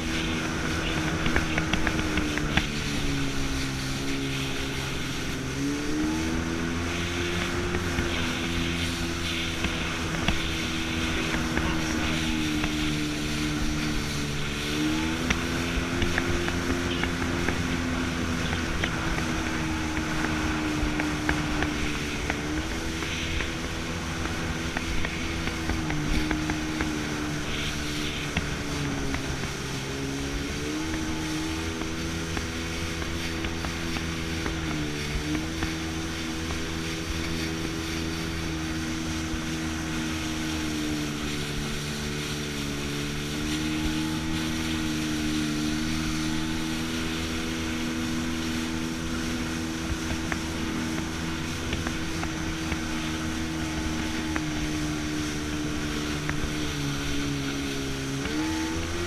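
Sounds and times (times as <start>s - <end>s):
jet ski engine running: 0.0s - 59.0s
water rushing: 0.0s - 59.0s
wind: 0.0s - 59.0s.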